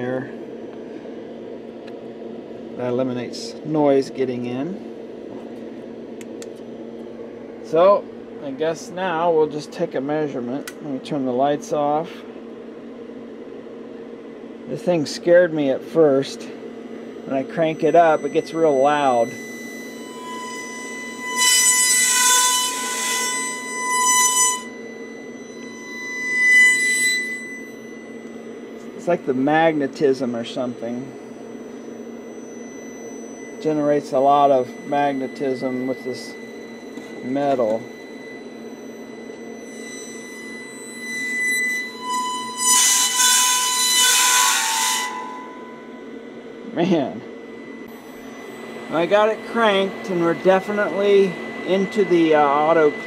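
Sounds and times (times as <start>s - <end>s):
resistor coils buzzing tone: 0.0s - 53.0s.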